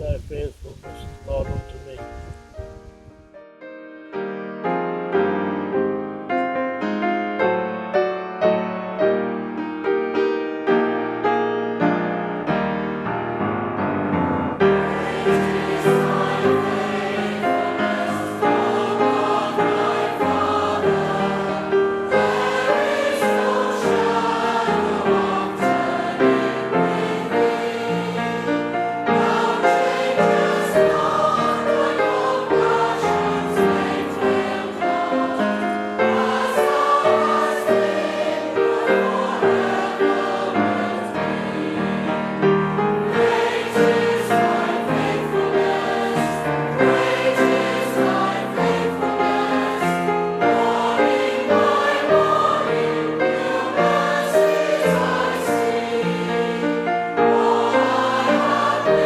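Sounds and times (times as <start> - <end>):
hymn played on piano: 0.0 - 59.0
choir singing: 5.1 - 59.0.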